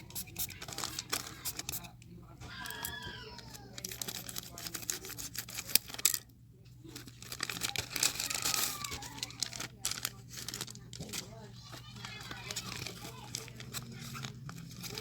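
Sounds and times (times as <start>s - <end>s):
package wrapping tearing and crinkling: 0.0s - 1.9s, 2.5s - 6.2s, 7.0s - 15.0s.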